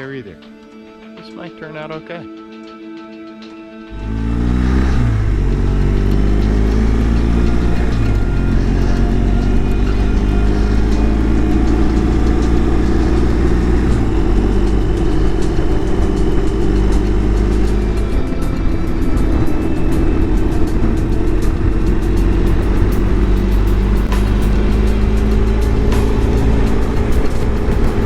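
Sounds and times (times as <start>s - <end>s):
motorcycle engine revving: 3.9s - 28.0s.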